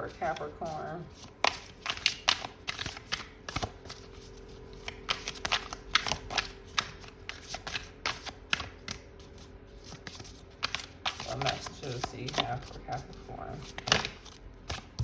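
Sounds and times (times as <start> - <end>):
cards being shuffled: 0.1 - 15.0.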